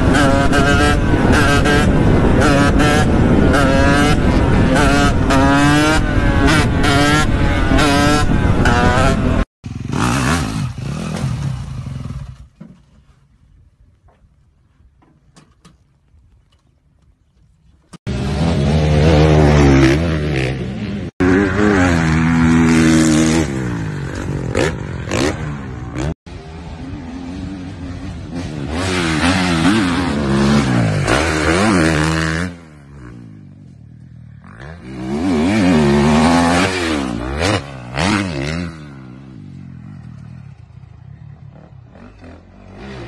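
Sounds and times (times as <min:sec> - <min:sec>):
motorcycle engine revving: 0:00.0 - 0:12.6, 0:18.0 - 0:43.0.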